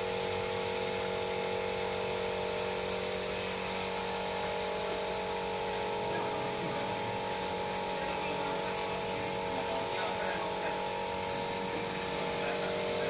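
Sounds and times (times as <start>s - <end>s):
power tool motor whining: 0.0s - 13.0s.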